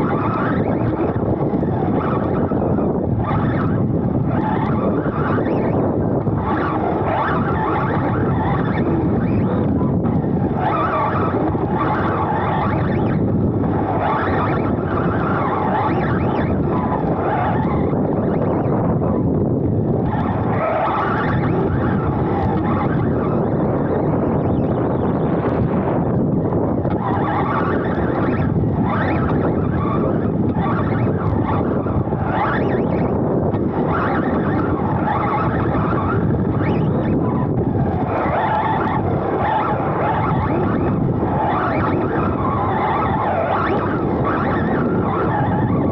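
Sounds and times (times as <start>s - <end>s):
electric motor whine: 0.0s - 45.9s
wind on microphone: 0.0s - 45.9s.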